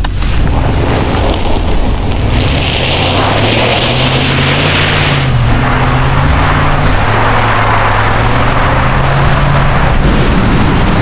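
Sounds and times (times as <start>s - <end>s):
pickup engine running: 0.0s - 11.0s.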